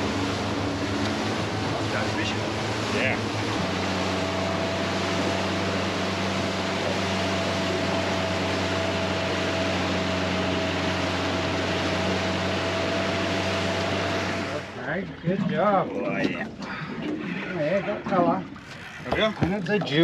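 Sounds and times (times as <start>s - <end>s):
wind and water rushing: 0.0s - 17.6s, 18.5s - 20.0s
outboard motor running: 0.0s - 20.0s.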